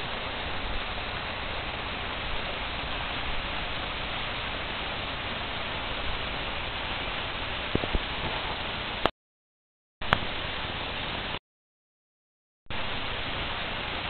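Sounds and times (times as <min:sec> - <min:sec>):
waterfall rushing: 0:00.0 - 0:09.1, 0:10.0 - 0:11.4, 0:12.7 - 0:14.0.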